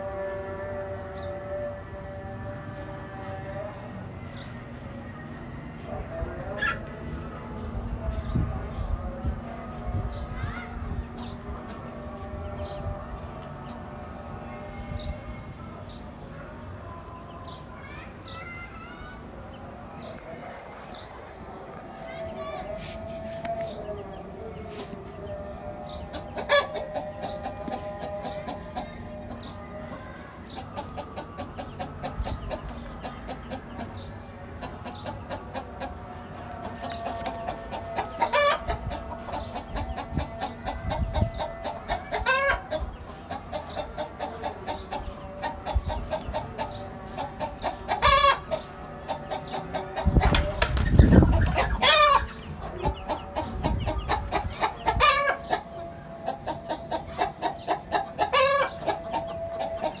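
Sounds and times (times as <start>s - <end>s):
chickens clucking: 2.7s - 60.0s.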